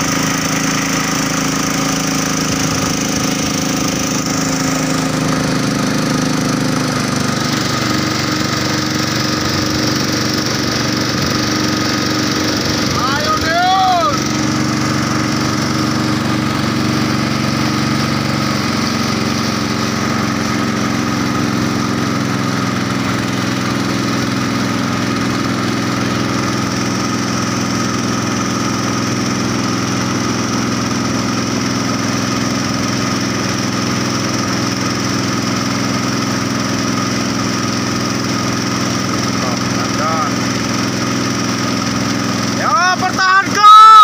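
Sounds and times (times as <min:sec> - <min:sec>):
motorboat engine running: 0:00.0 - 0:44.0.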